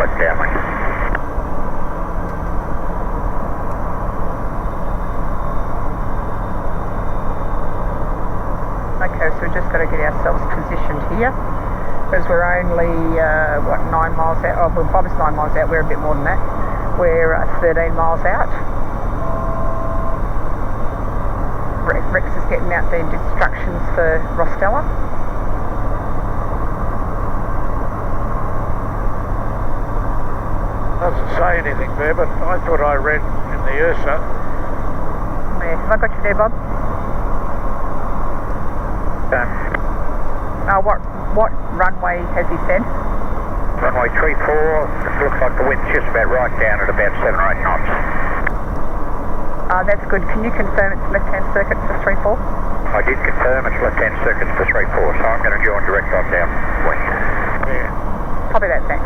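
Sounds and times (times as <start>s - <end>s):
airflow noise: 0.0s - 35.7s, 42.2s - 59.0s
light aircraft engine and propeller drone: 0.0s - 59.0s.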